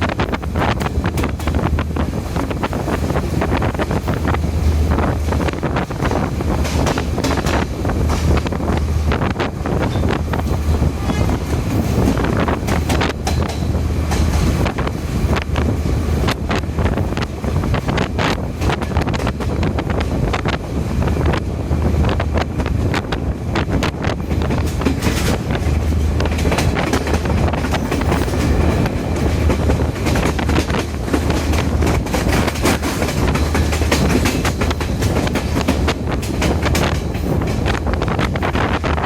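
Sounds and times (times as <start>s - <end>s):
train low rumble: 0.0s - 39.0s
train wheels clattering over rails: 0.0s - 39.0s.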